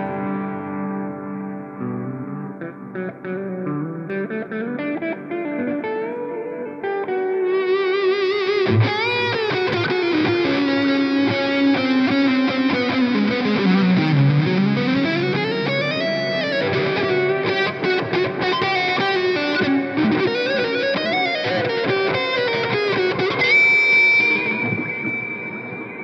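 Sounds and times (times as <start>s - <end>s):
electric guitar notes with slides: 0.0s - 26.0s.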